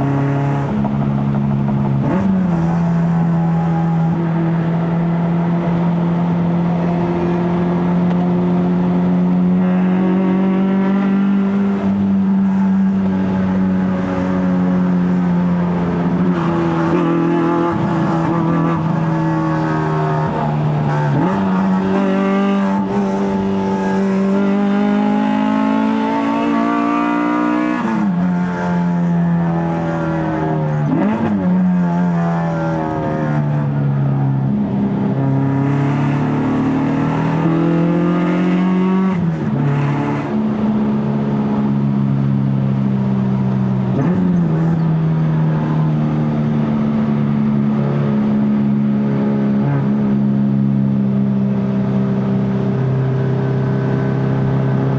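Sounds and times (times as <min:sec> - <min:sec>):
car engine revving through gears: 0:00.0 - 0:33.7, 0:34.4 - 0:43.0, 0:43.7 - 0:54.9.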